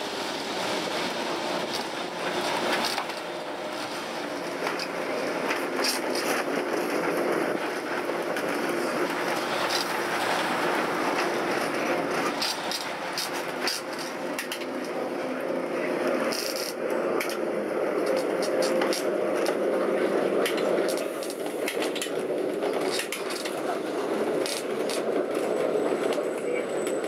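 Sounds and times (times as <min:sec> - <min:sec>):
tram running on rails: 0:00.0 - 0:27.0.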